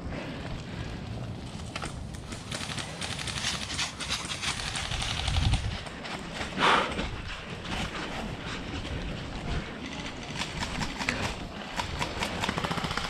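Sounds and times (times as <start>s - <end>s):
footsteps on rough ground: 0.0s - 13.0s.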